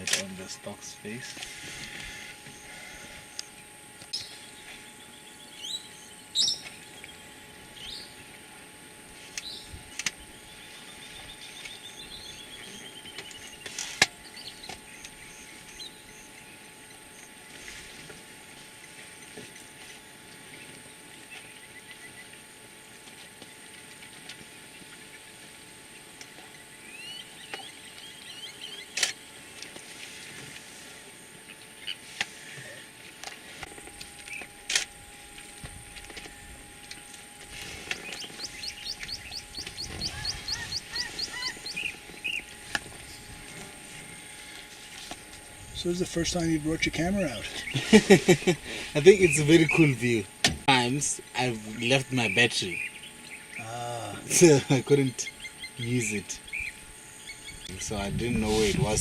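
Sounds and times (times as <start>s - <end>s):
birds chirping and trilling: 0.0s - 22.6s, 24.4s - 29.5s, 31.3s - 33.2s, 34.0s - 59.0s
faint steady hum: 0.0s - 59.0s.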